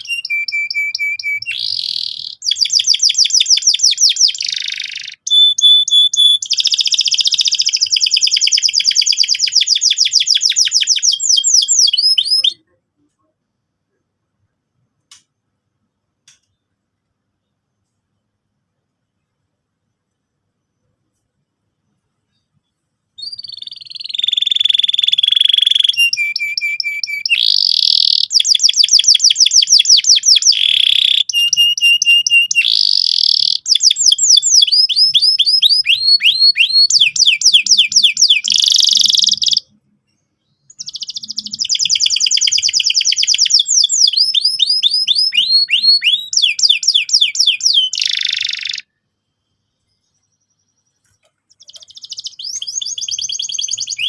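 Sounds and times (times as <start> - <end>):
canary singing trills: 0.0 - 13.3, 21.8 - 54.0.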